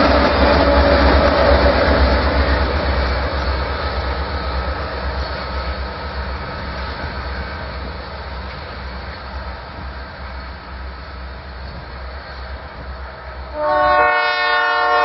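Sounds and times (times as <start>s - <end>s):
diesel locomotive engines: 0.0s - 15.0s
train wheels on rails: 0.0s - 15.0s.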